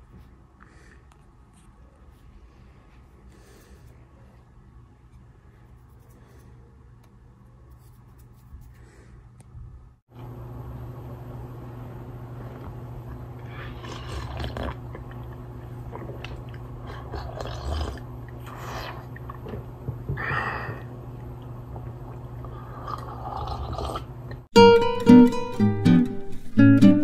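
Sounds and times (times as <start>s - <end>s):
steady low hum: 0.0s - 24.6s.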